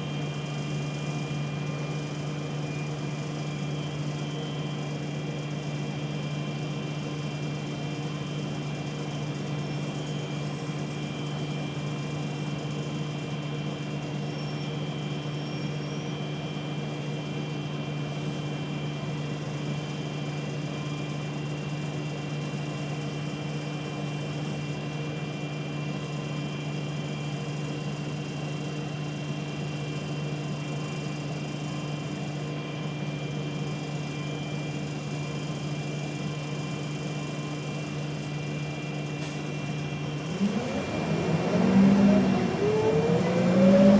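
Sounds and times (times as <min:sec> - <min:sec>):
bus engine buzz with whine: 0:00.0 - 0:43.9
bus running noise: 0:00.0 - 0:43.9.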